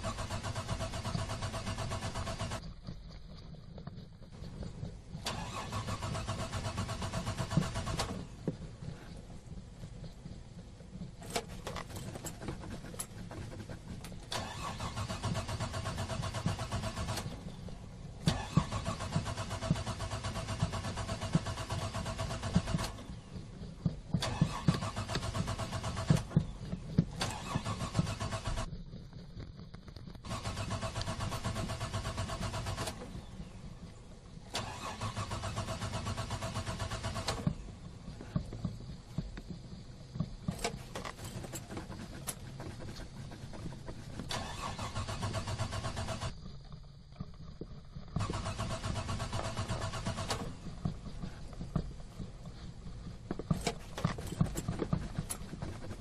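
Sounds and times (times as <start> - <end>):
car starter motor cranking: 0.0 - 2.7, 5.1 - 9.1, 11.2 - 23.2, 24.1 - 28.7, 30.2 - 33.6, 34.4 - 39.3, 40.4 - 46.4, 48.2 - 52.7, 53.3 - 56.0.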